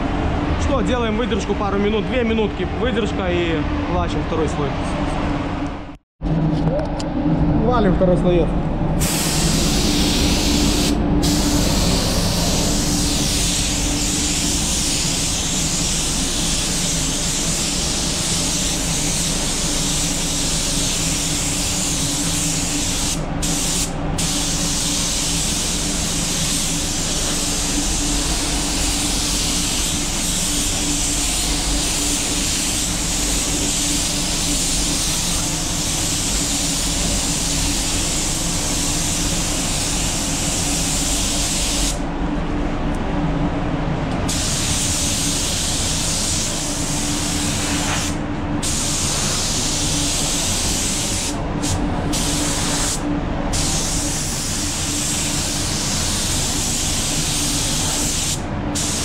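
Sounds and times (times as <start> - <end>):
steady low hum: 0.0 - 59.0
spray gun hissing: 9.0 - 42.0, 44.3 - 59.0.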